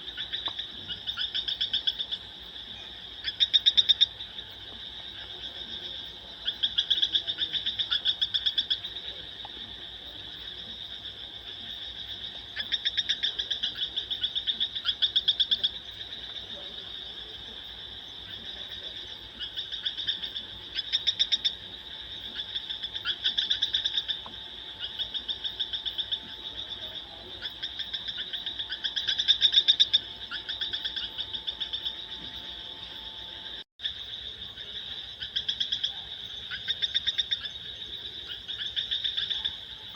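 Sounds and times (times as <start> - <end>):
animal calling in pulsed trills: 0.0 - 33.6.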